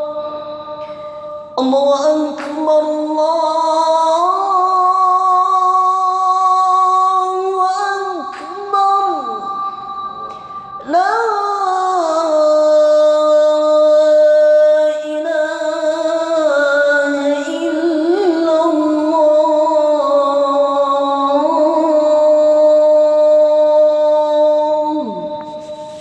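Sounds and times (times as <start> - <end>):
man chanting call to prayer: 0.0 - 26.0.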